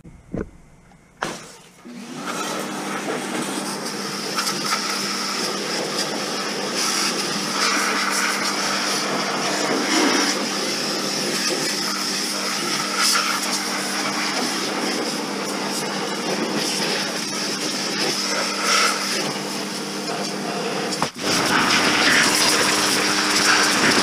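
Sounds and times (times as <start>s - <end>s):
pressure washer motor hum: 0.0s - 24.0s
water jet hissing: 2.6s - 24.0s.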